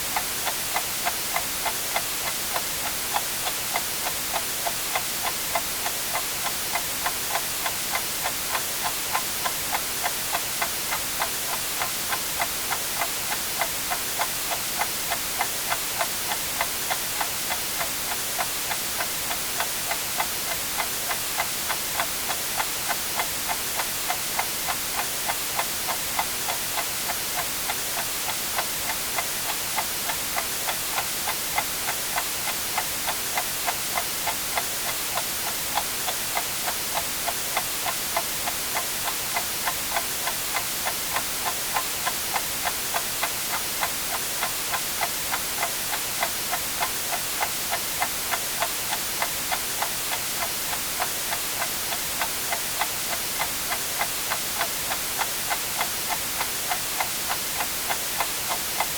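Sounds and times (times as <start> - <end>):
white noise hiss: 0.0 - 58.9
clock ticking: 0.2 - 58.9.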